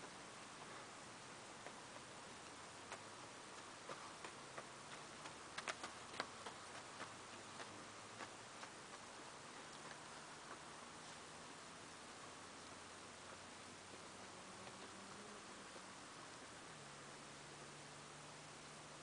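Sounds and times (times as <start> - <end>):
horse hooves on frosty ground: 0.0 - 17.6
steady hiss: 0.0 - 19.0.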